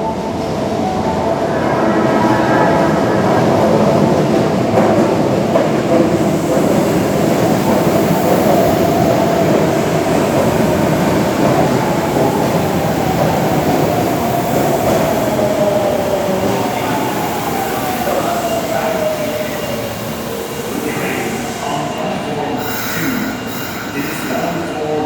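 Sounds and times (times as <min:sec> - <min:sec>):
subway car running rumble: 0:00.0 - 0:25.0
subway car whine: 0:00.0 - 0:25.0.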